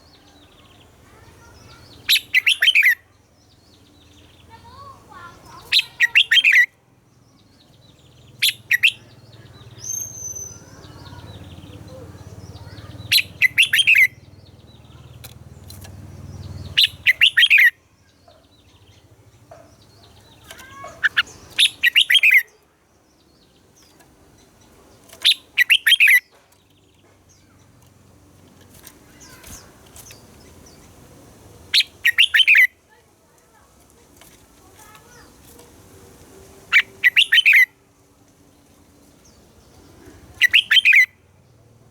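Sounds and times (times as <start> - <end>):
bird singing rippling phrases: 0.0 - 33.0, 33.6 - 41.9.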